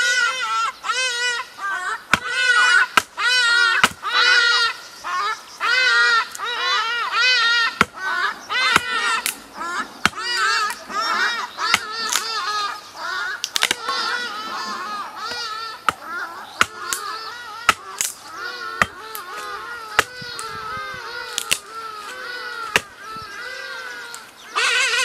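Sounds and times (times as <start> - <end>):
short animal calls: 2.3 - 25.0.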